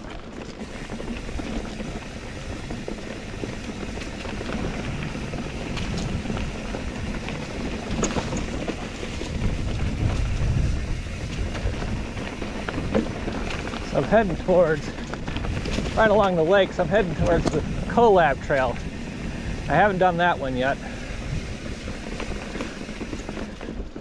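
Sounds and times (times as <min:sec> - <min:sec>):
bike tyre rumble and rattle: 0:00.0 - 0:24.0
sharp bike clicks: 0:00.0 - 0:24.0
wind buffeting microphone: 0:00.6 - 0:23.9.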